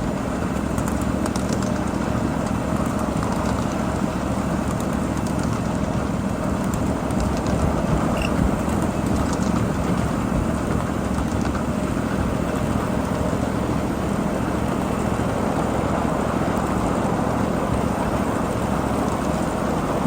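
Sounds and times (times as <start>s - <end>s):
miniature train rumbling on track: 0.0s - 20.0s.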